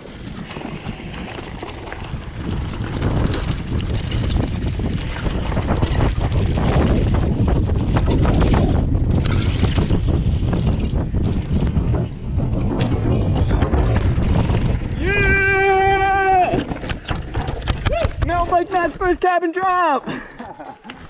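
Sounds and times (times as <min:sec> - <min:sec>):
wind rushing over microphone: 0:00.0 - 0:19.1
bike clattering over rough ground: 0:00.0 - 0:21.0.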